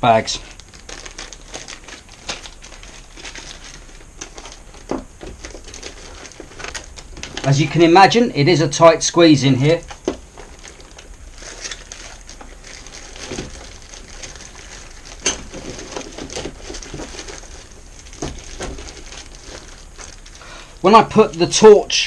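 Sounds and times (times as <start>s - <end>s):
plastic bags rustling: 0.0s - 8.3s, 9.6s - 22.0s.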